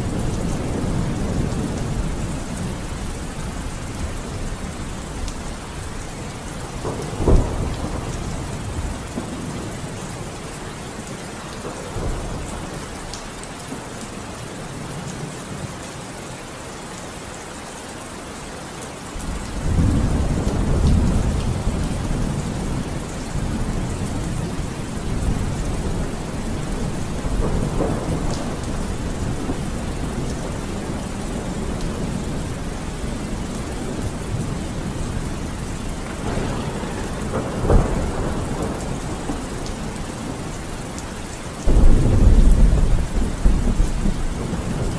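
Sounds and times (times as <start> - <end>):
thunder rumbling: 0.0 - 13.2, 19.2 - 44.9
steady rain: 0.0 - 44.9.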